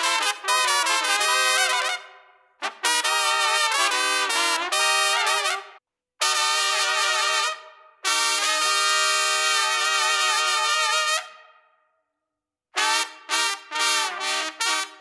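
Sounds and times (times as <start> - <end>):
trumpet playing: 0.0 - 11.6, 12.8 - 15.0.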